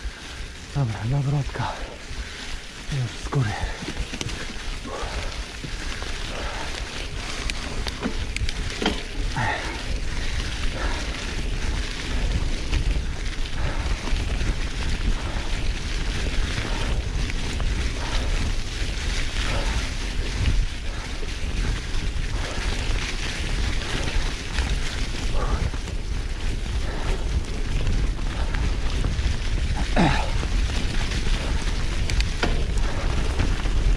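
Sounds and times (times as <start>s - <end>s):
bike tyres rumbling on dirt trail: 0.0s - 33.9s
wind on microphone: 1.7s - 33.9s.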